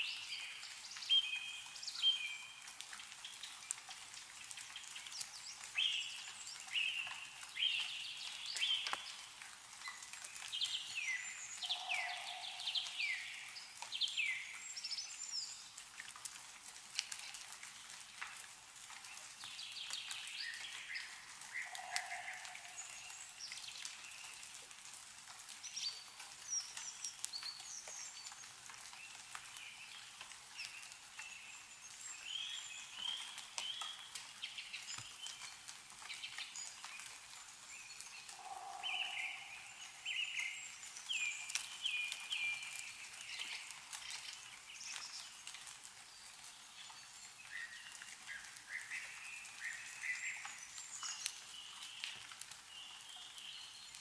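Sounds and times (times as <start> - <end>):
songbirds calling and singing: 0.0 - 16.1, 18.9 - 24.6, 25.5 - 54.0
meltwater dripping from trees: 0.0 - 54.0.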